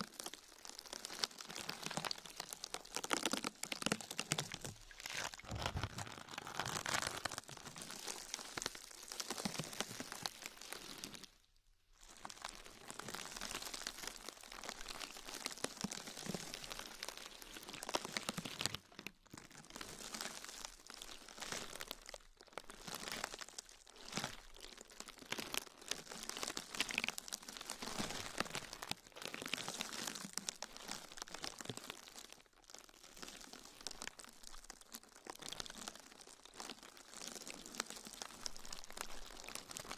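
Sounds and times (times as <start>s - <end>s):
material crinkling and crumpling: 0.0s - 11.4s, 12.0s - 39.9s.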